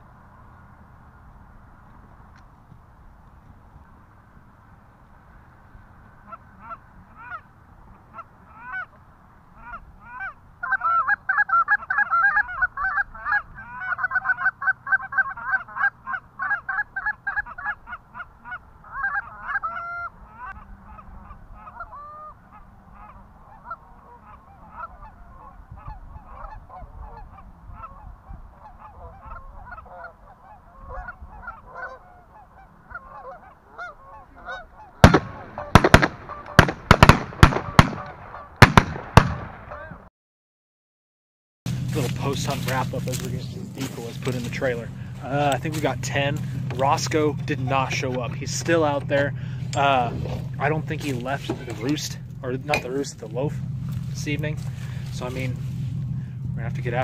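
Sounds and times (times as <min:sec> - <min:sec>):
geese honking: 0:05.4 - 0:38.7, 0:39.6 - 0:40.0, 0:41.7 - 0:57.0.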